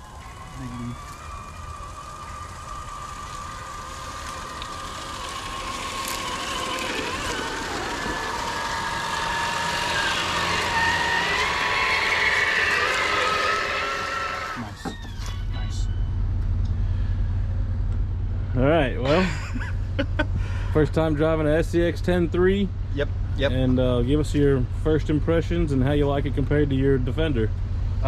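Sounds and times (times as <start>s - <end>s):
electric motor and gear whine: 0.0s - 28.0s.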